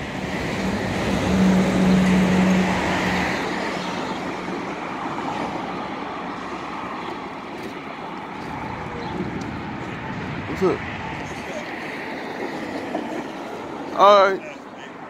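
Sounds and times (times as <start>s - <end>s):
motor vehicle passing: 0.0s - 14.0s
road traffic rumble: 0.0s - 15.0s.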